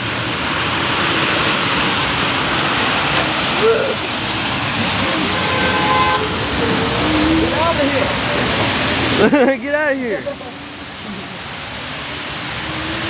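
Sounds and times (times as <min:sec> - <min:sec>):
rainstorm rushing: 0:00.0 - 0:13.0.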